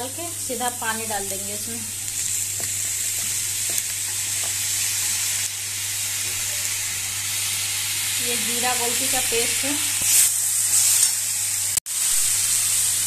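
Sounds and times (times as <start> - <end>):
fruit sizzling in oil: 0.0 - 13.0.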